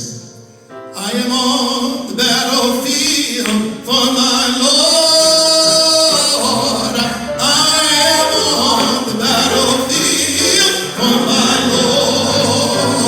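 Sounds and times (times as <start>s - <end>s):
gospel singing with instruments: 0.9s - 13.0s.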